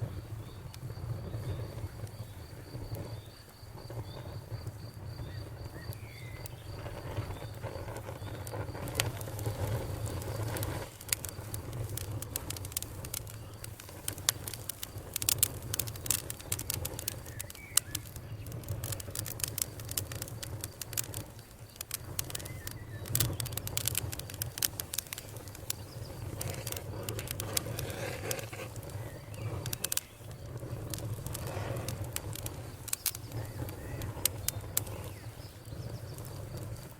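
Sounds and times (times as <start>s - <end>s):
campfire crackling and popping: 0.0s - 36.9s
cricket trill: 0.0s - 36.9s.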